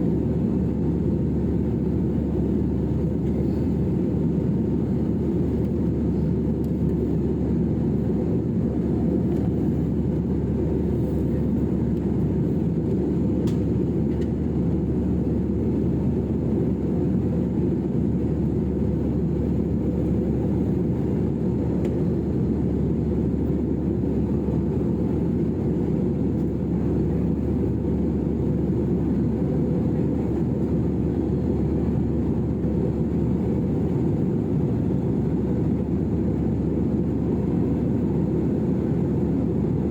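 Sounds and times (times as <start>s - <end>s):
jet engine and airflow in cabin: 0.0s - 39.9s.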